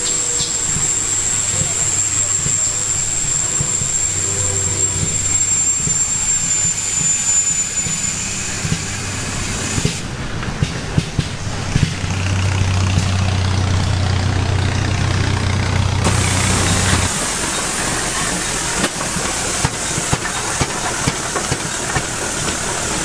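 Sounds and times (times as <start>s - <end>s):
old engines humming: 0.0s - 23.0s.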